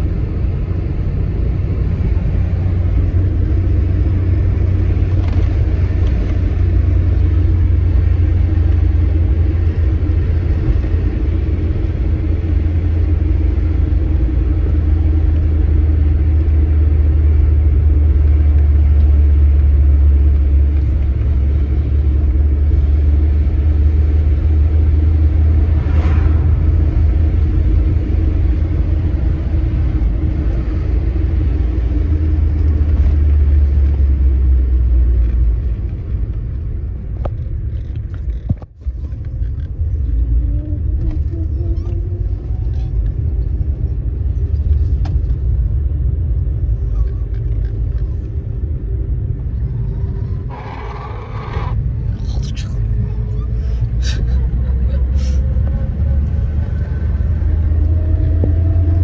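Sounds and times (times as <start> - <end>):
car engine and road noise rumble: 0.0 - 59.0.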